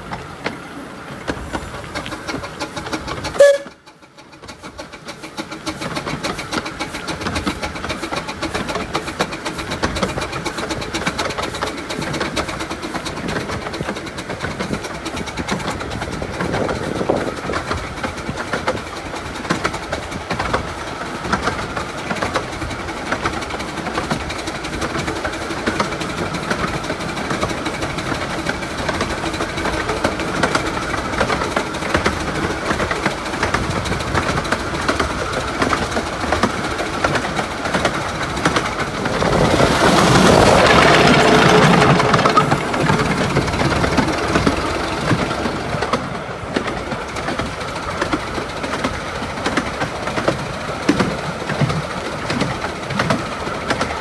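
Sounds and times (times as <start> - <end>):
steam train running past: 0.0 - 54.0
wheels clattering on track: 0.0 - 54.0.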